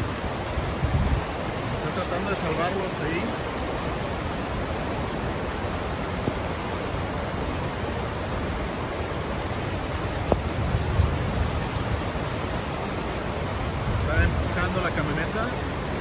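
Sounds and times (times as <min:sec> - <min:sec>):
fast-flowing floodwater rushing: 0:00.0 - 0:16.0.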